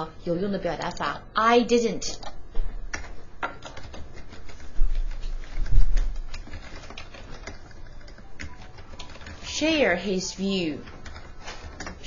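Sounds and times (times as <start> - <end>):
keyboard keys typing: 2.1 - 12.0.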